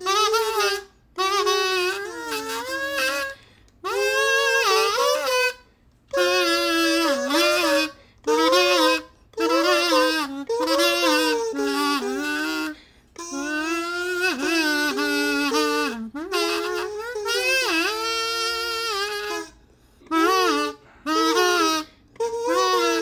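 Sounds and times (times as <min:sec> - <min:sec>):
kazoo buzzing a melody: 0:00.0 - 0:23.0.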